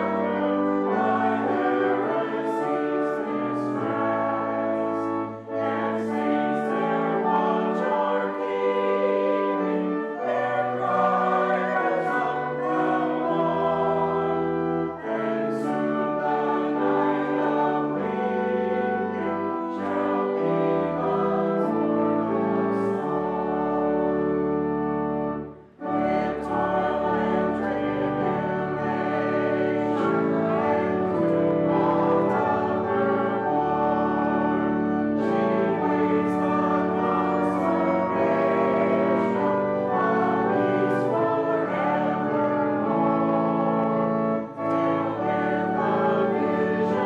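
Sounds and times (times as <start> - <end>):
choir singing a hymn: 0.0 - 47.0
organ accompaniment: 0.0 - 47.0.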